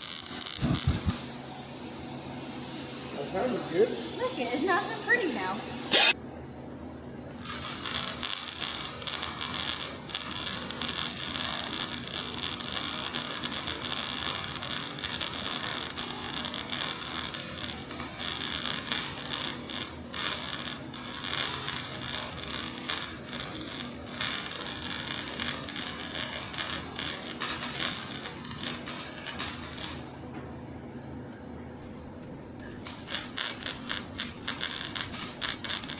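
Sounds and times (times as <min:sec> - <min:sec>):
welding arc crackling: 0:00.0 - 0:06.2, 0:07.3 - 0:30.2, 0:32.6 - 0:35.9.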